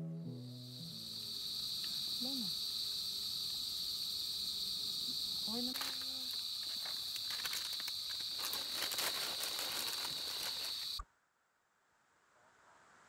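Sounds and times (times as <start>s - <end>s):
insect chorus trilling: 0.0s - 11.0s.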